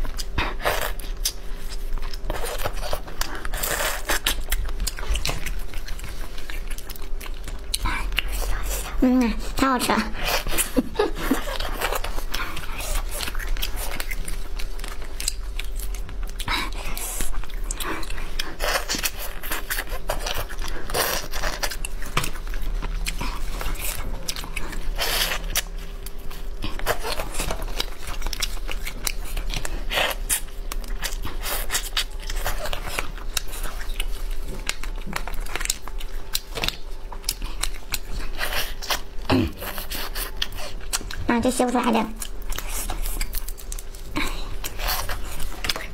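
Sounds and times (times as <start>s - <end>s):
sucking and chewing: 0.0s - 45.9s.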